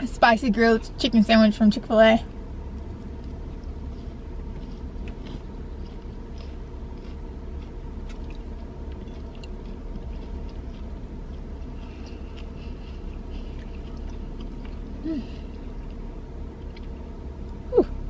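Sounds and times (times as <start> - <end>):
low hum: 0.0 - 18.0
person chewing: 2.7 - 18.0.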